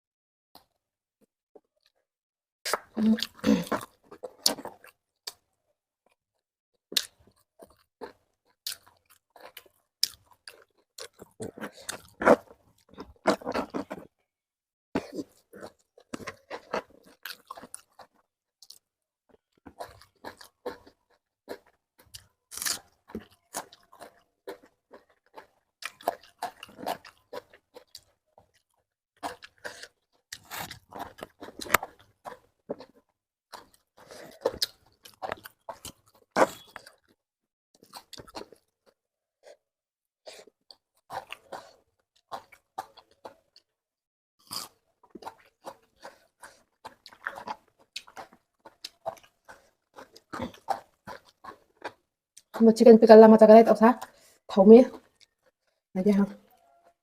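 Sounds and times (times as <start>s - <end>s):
person chewing crunchy food: 2.6s - 5.5s, 6.8s - 14.2s, 15.0s - 37.2s, 37.8s - 39.6s, 40.3s - 43.7s, 44.4s - 52.8s, 54.0s - 57.0s.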